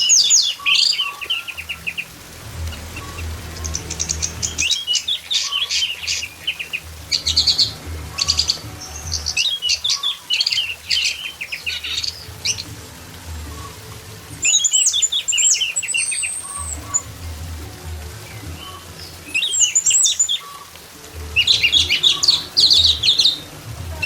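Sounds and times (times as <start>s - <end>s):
thrush singing: 0.0s - 24.0s.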